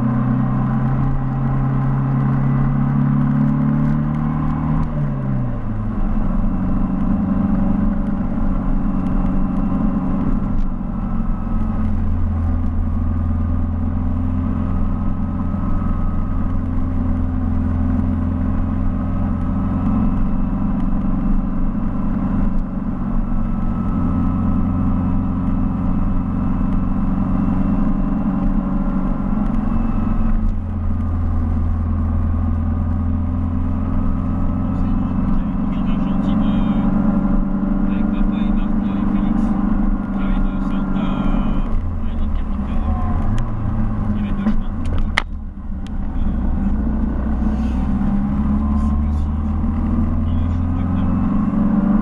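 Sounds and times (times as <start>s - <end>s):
car engine droning: 0.0s - 52.0s.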